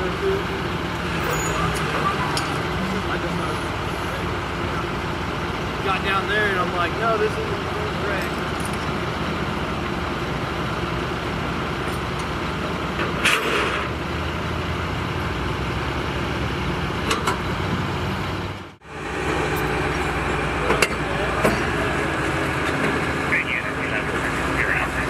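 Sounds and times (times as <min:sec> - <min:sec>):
road traffic with engine rumble: 0:00.0 - 0:25.0.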